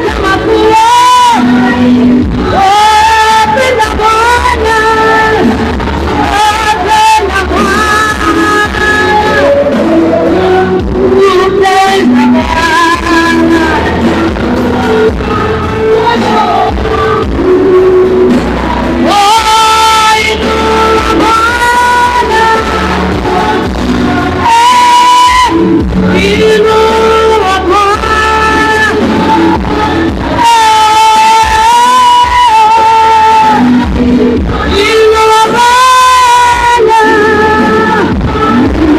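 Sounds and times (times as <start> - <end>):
instrumental backing: 0.0 - 38.9
male and female voices singing: 0.0 - 38.9
steady bass: 0.0 - 38.9.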